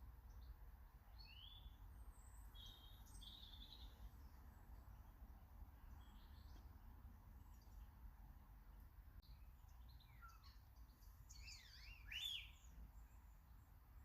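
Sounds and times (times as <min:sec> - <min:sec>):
small birds chirping: 0:00.0 - 0:05.2, 0:05.8 - 0:08.2, 0:09.2 - 0:14.0.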